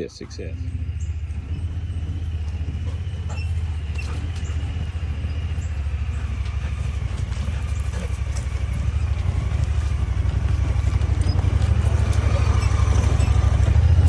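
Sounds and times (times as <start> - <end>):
utility vehicle engine throbbing: 0.0 - 14.0.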